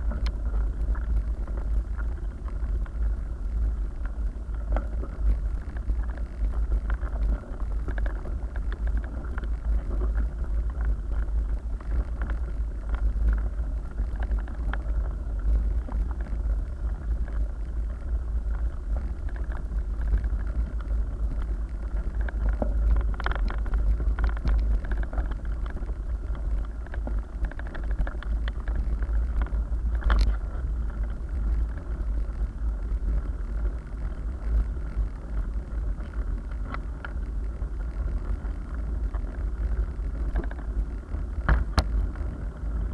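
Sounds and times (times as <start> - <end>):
bike rattles and clicks: 0.0 - 42.9
bike rumbling over gravel: 0.0 - 42.9
wind on microphone: 0.0 - 42.9.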